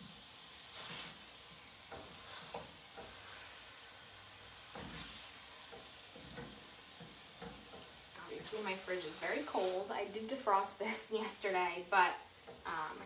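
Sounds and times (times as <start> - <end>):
meat sizzling in a pan: 0.0 - 13.0
wooden spoon scraping a pan: 0.5 - 11.4.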